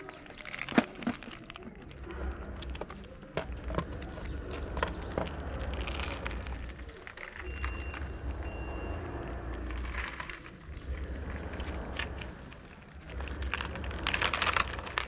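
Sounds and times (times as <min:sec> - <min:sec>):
cats chewing and lapping: 0:00.0 - 0:15.0
low rumble: 0:01.9 - 0:15.0.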